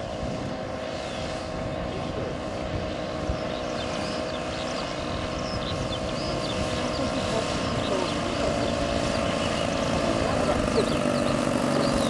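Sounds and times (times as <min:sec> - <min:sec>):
model plane propeller engines humming: 0:00.0 - 0:12.0.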